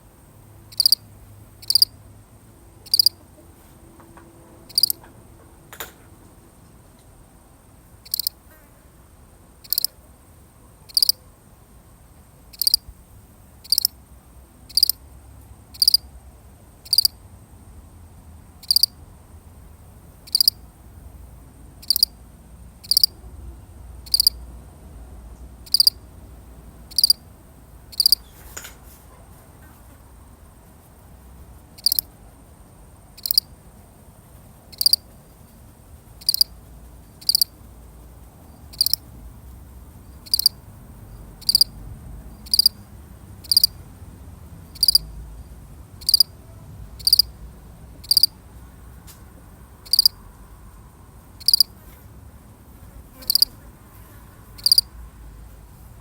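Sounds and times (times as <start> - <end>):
cricket chirping: 0.0 - 3.4, 4.7 - 6.0, 6.6 - 24.6, 25.2 - 28.7, 30.4 - 51.8, 53.1 - 53.6, 54.6 - 55.0.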